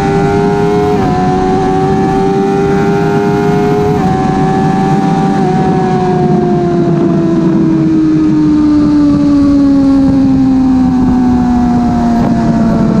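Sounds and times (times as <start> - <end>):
wind rush: 0.0 - 13.0.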